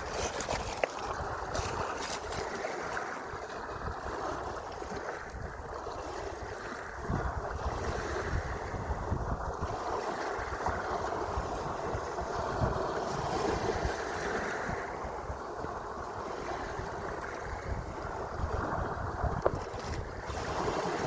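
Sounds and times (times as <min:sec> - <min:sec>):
sea waves washing: 0:00.0 - 0:21.0
wind buffeting microphone: 0:00.0 - 0:21.0.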